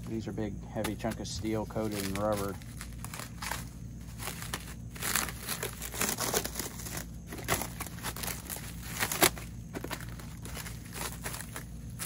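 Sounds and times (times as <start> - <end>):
plastic packaging crinkling and tearing: 0.8 - 12.0.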